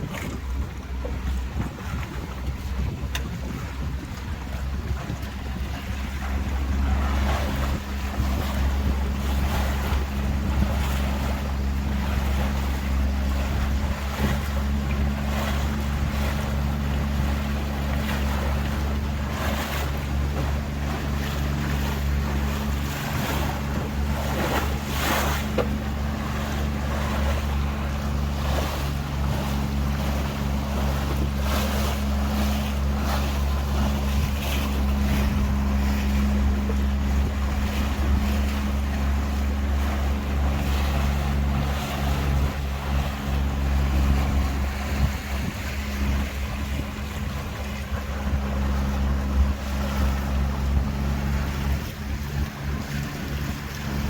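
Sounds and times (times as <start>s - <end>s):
boat engine humming: 0.0s - 54.0s
water rushing past hull: 0.0s - 54.0s
wind on microphone: 0.0s - 54.0s.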